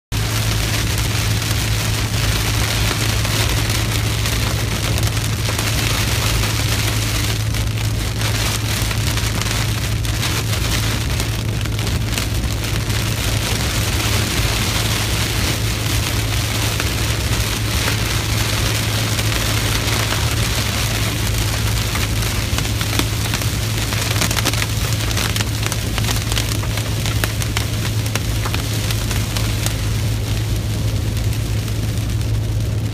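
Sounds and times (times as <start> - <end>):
heavy rain on windshield: 0.1 - 32.9
truck driving drone: 0.2 - 32.9.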